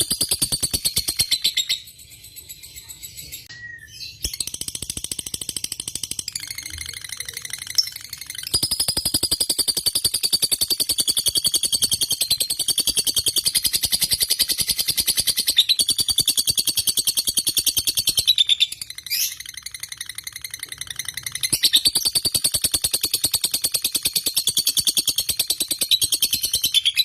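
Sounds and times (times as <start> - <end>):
lovebird chattering trill: 0.0 - 27.0.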